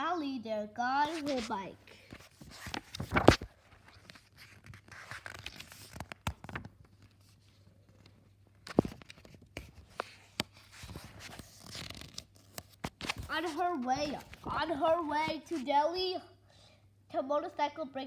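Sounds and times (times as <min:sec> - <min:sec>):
paper rustling: 0:01.0 - 0:15.7.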